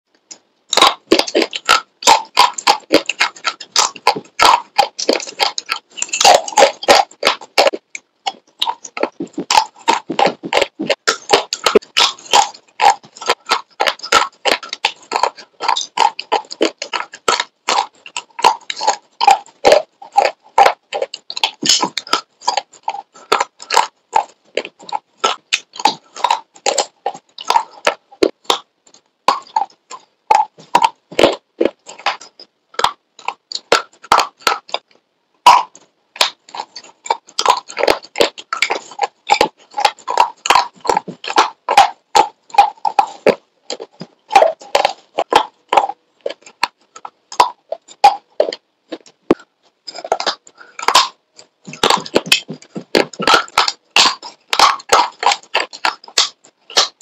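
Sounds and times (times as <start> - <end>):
crunching slate chips with teeth: 0.7 - 28.7, 35.5 - 57.0.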